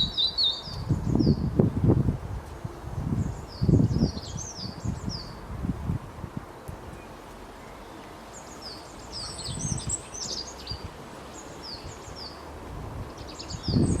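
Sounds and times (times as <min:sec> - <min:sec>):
small birds chirping: 0:00.0 - 0:01.8, 0:02.4 - 0:05.4, 0:06.9 - 0:14.0.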